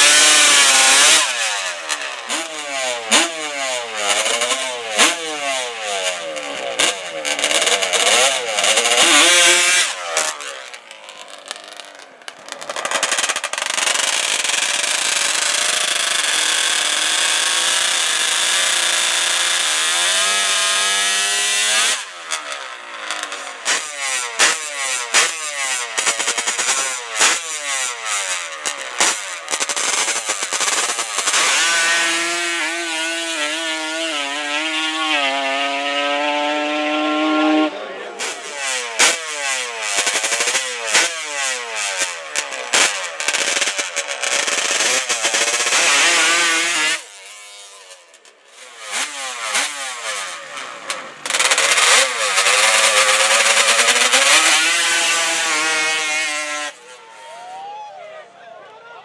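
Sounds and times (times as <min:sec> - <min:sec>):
racing engines revving: 0:00.0 - 0:57.3.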